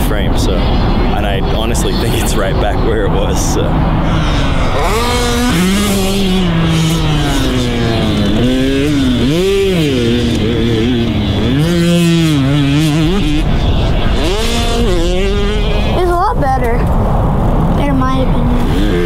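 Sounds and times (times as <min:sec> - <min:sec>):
dirt bike engine revving: 0:00.0 - 0:16.3, 0:18.4 - 0:19.0.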